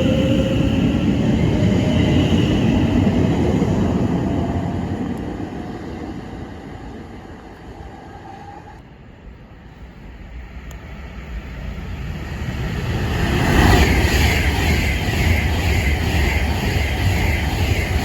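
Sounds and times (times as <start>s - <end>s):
train passing on rails: 0.0s - 18.0s.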